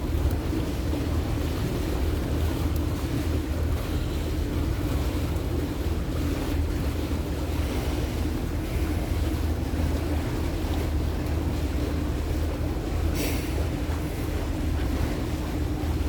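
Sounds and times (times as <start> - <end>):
water rushing past hull: 0.0 - 16.0.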